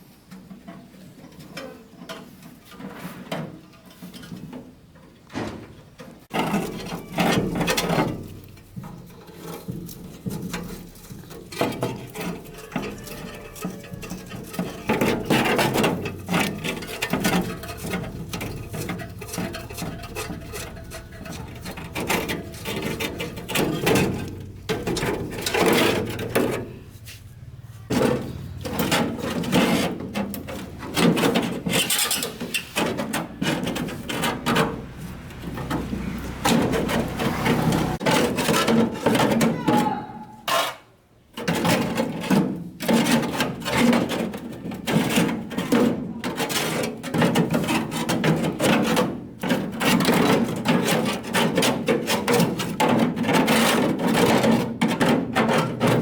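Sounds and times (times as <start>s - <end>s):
hand tools clicking and scraping metal: 6.2s - 39.6s, 40.4s - 56.0s.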